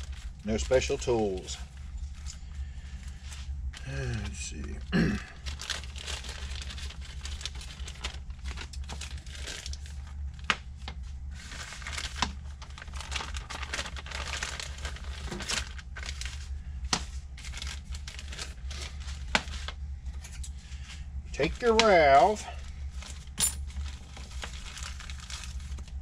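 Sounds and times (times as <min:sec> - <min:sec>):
plastic bag crinkling: 0:00.0 - 0:20.4, 0:21.3 - 0:26.0
steady low hum: 0:00.0 - 0:26.0.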